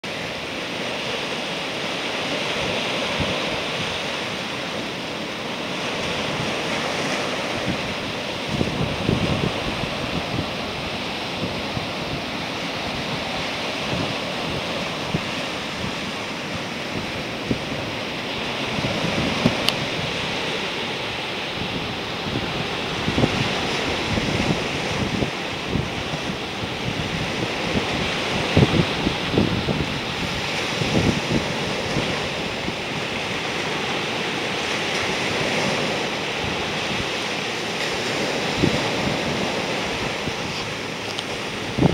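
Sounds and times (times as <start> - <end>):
ocean surf breaking: 0.0 - 41.9
wind buffeting microphone: 0.1 - 41.9.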